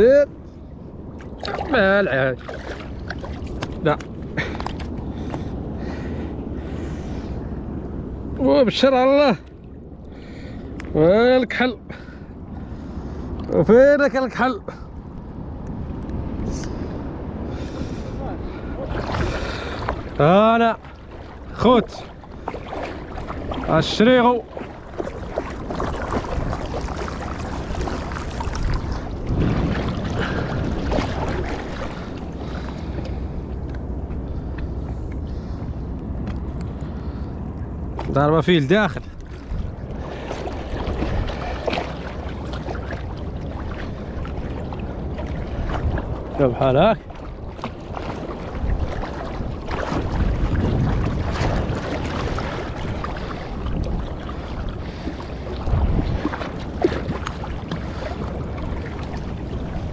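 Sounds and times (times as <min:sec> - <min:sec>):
water sloshing and splashing: 0:00.0 - 0:59.9
wind buffeting microphone: 0:00.0 - 0:59.9.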